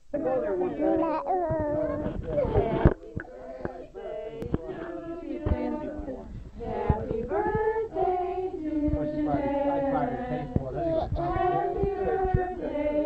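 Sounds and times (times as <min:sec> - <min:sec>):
voices singing held notes: 0:01.8 - 0:13.0.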